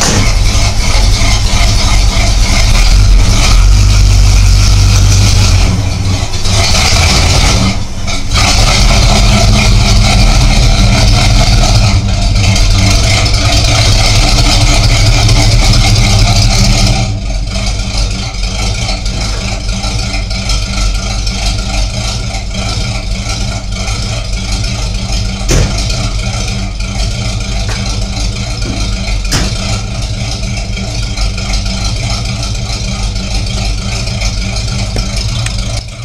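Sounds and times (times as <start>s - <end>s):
car engine running: 0.0s - 36.0s
engine knock: 0.0s - 36.0s.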